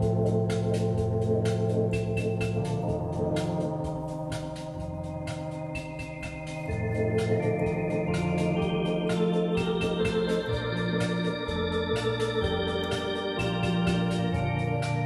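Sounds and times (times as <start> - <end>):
organ playing lounge music: 0.0 - 15.0.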